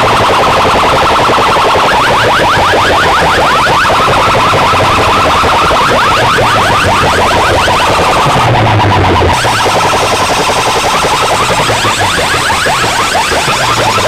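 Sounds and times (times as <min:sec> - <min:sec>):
electronic siren sweeps: 0:00.0 - 0:14.0.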